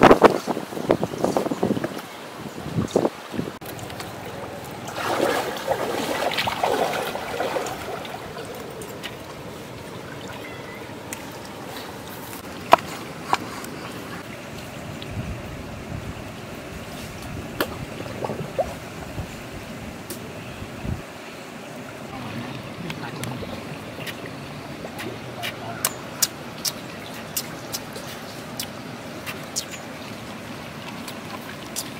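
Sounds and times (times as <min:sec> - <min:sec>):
stream trickling: 0:00.0 - 0:31.9.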